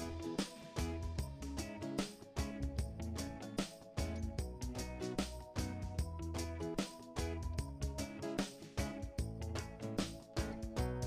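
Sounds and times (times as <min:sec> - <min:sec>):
background music with steady beat: 0:00.0 - 0:11.0
plucked guitar-like notes: 0:00.0 - 0:11.0.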